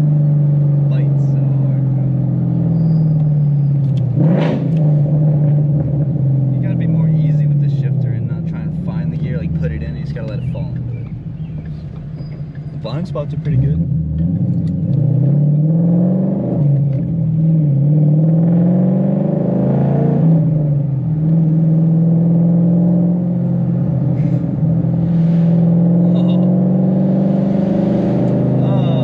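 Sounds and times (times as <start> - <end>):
car engine from inside cabin: 0.0 - 29.0.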